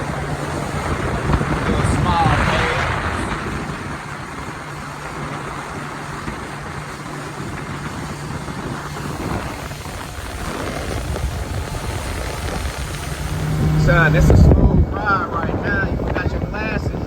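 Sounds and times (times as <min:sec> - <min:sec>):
motorboat engine humming: 0:00.0 - 0:17.0
wind and water rushing: 0:00.0 - 0:17.0.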